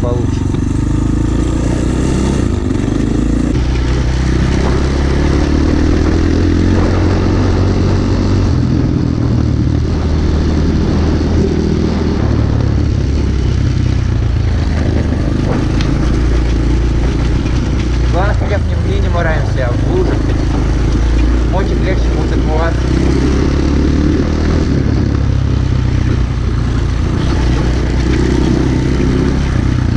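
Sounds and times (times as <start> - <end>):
motorbike engine running: 0.0 - 29.9.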